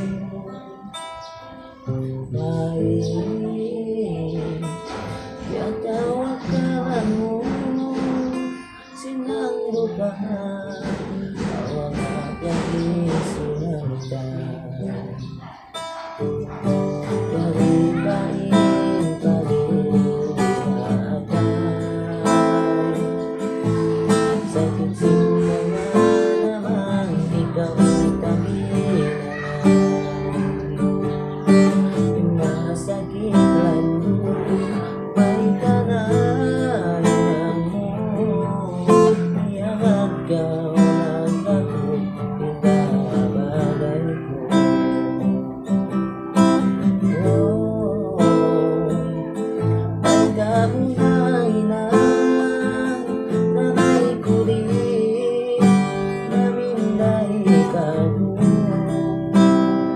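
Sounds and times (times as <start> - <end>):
acoustic guitar strumming chords: 0.0 - 59.9
man singing: 0.0 - 59.9.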